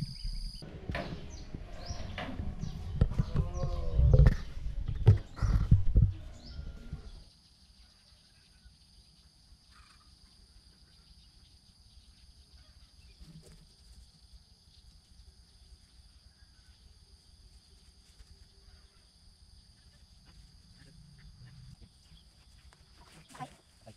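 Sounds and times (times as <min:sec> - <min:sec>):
faint outdoor ambience: 0:00.0 - 0:23.9.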